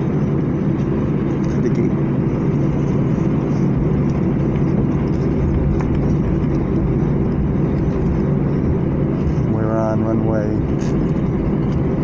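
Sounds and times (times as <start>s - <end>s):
engines humming at low power: 0.0s - 12.0s
jet airliner cabin rumble: 0.0s - 12.0s.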